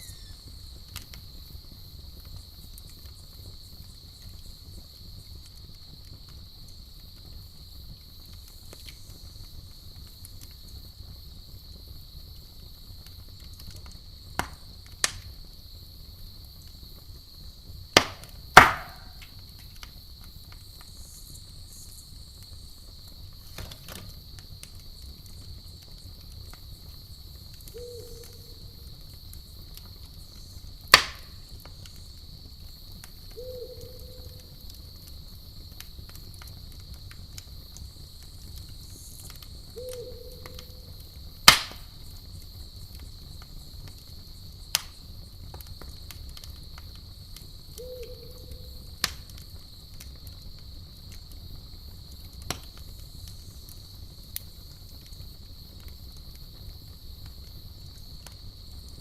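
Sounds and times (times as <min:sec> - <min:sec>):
crickets chirping: 0:00.0 - 0:59.0
low rumble of fire: 0:00.0 - 0:59.0
wood popping and cracking in fire: 0:00.0 - 0:59.0.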